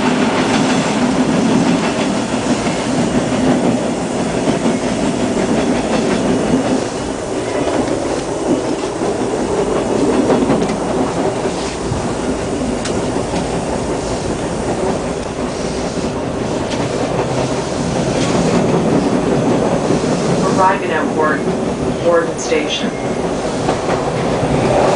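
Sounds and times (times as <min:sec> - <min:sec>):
rail joint clicks: 0:00.0 - 0:24.9
subway wheels rumbling on rails: 0:00.0 - 0:24.9.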